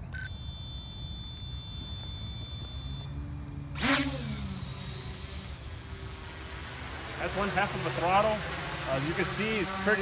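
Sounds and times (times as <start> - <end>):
quadcopter propellers whining: 1.8 - 10.0.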